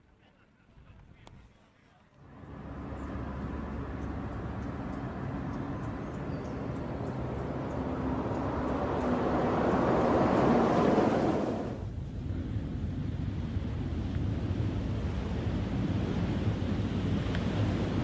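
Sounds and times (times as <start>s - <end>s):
bus engine running: 2.2s - 18.0s
road and tyre noise: 2.2s - 18.0s.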